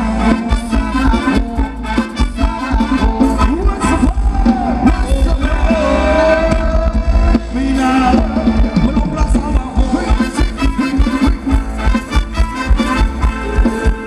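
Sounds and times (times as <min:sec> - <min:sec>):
live band dance music: 0:00.0 - 0:14.0.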